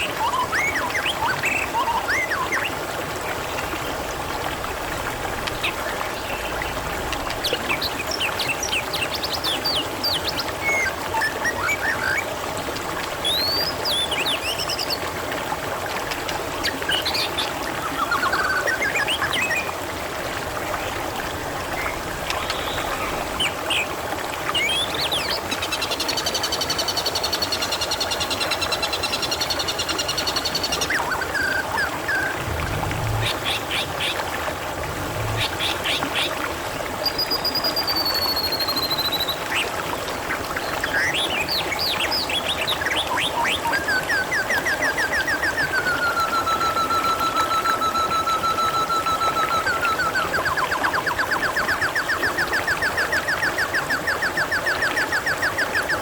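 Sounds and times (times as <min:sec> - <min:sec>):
water trickling: 0:00.0 - 0:56.0.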